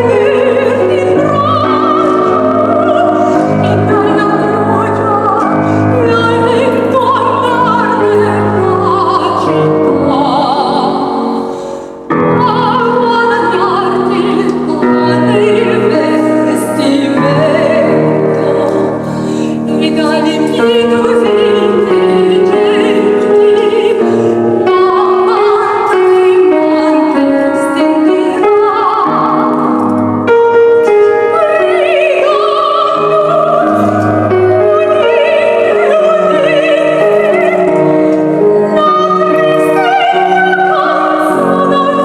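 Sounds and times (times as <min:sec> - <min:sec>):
soprano singing opera: 0:00.0 - 0:29.8, 0:30.8 - 0:42.0
piano accompaniment: 0:00.0 - 0:42.0.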